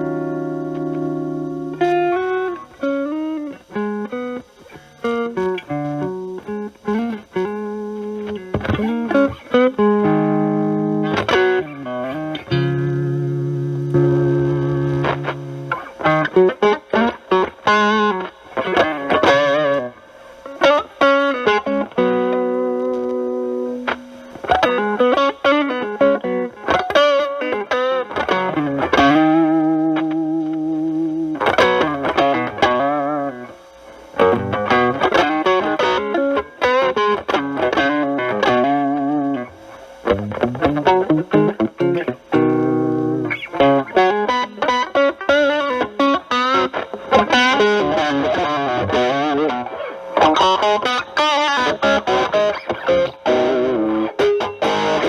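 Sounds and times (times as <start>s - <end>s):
distorted electric guitar lead: 0.0s - 55.0s.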